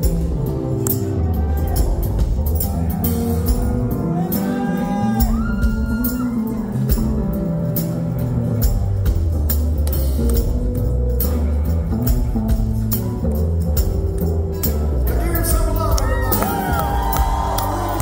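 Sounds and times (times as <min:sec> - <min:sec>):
live rock band with fiddle: 0:00.0 - 0:18.0.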